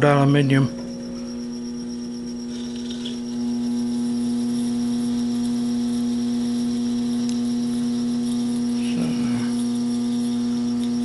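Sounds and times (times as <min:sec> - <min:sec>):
lathe motor humming: 0:00.0 - 0:11.0
drill bit cutting metal: 0:00.7 - 0:11.0.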